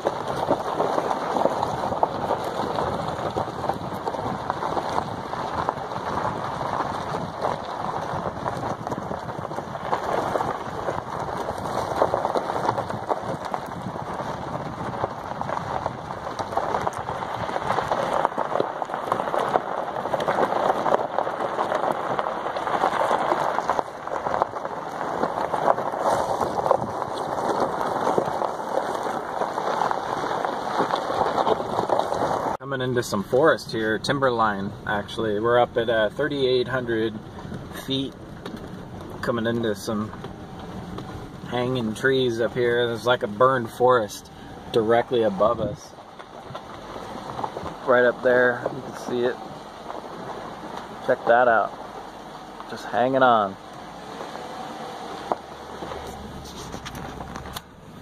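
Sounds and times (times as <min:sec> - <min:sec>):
tyres rolling over dirt: 0:00.0 - 0:58.0.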